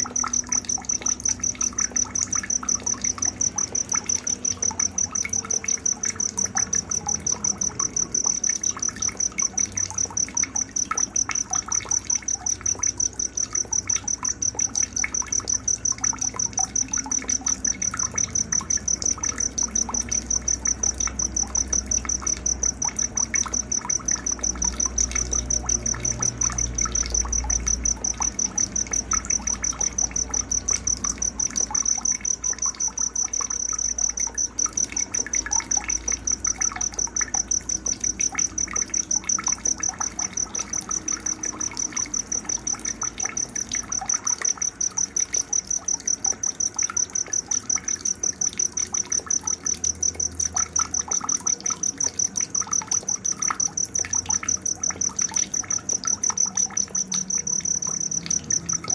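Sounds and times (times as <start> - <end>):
insect pulsing chirp: 0.0 - 58.9.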